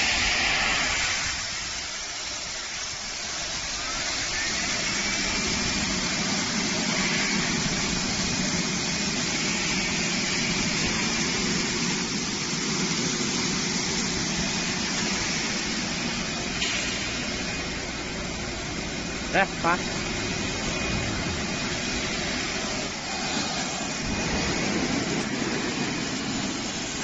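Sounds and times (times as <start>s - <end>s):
water hissing from spray nozzles: 0.0s - 27.0s
low motor hum: 4.8s - 27.0s.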